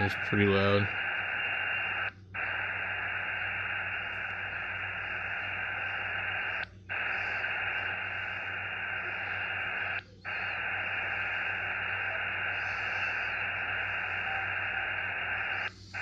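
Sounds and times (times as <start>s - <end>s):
low hum: 0.0s - 16.0s
radio receiver hiss: 0.0s - 16.0s.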